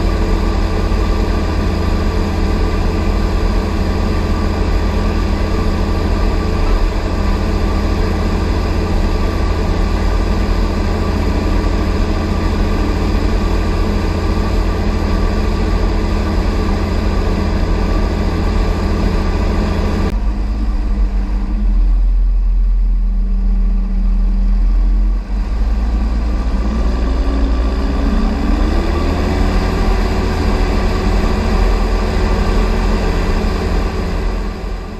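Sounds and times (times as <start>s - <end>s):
tractor diesel engine: 0.0s - 34.9s.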